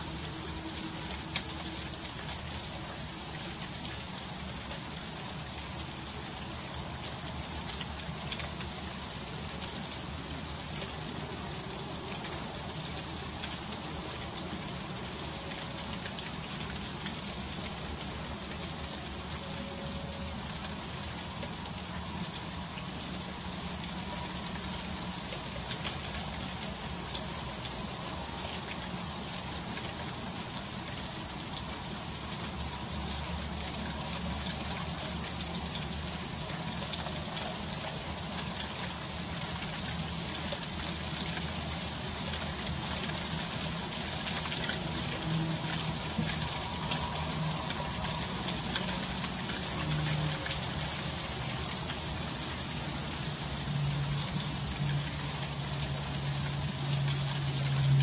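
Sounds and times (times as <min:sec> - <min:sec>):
freezing rain patter: 0:00.0 - 0:58.0.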